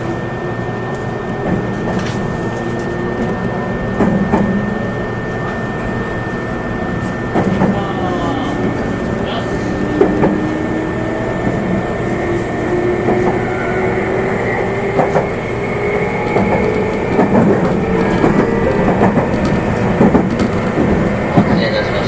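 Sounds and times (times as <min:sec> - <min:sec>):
electric train rumbling: 0:00.0 - 0:22.0
train motor whine: 0:00.0 - 0:22.0.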